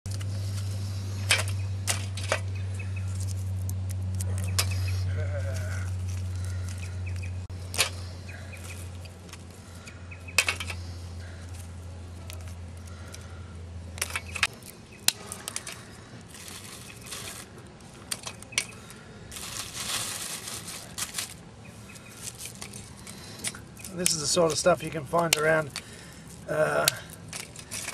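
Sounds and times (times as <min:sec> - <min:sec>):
dry rustling of twigs: 0:00.1 - 0:27.9
low steady hum: 0:00.1 - 0:27.9.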